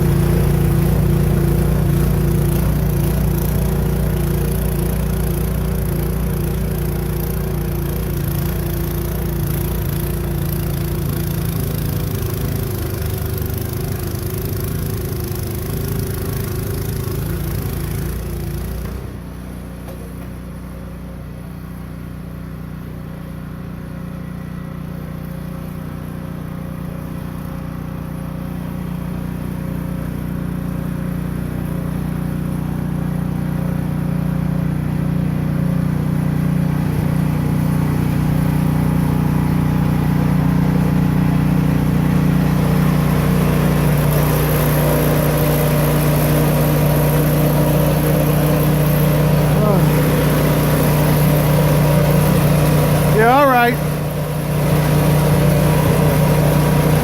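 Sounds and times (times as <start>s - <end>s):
snow blower engine running: 0.0s - 57.0s.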